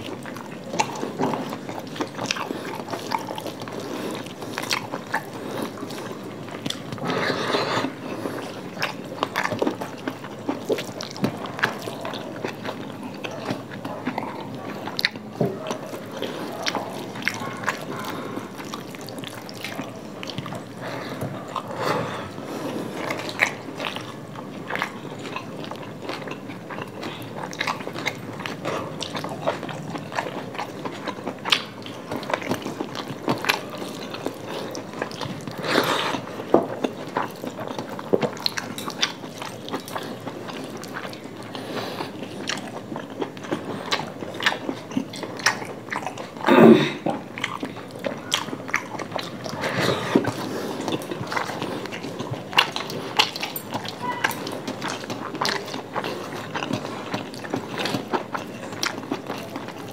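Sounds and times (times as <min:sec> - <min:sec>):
close-up chewing: 0:00.0 - 0:59.9.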